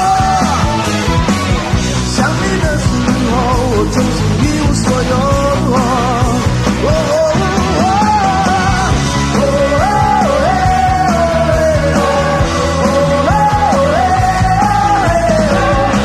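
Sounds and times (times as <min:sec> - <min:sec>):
live rock band playing loudly: 0:00.0 - 0:16.0.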